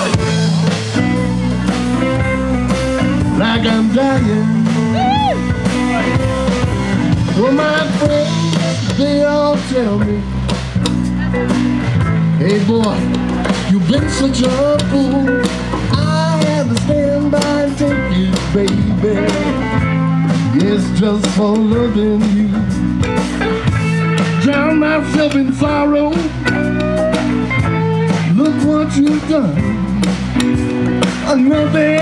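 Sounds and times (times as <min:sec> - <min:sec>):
drums: 0:00.0 - 0:32.0
electric bass: 0:00.0 - 0:32.0
lead guitar bending notes: 0:00.0 - 0:32.0.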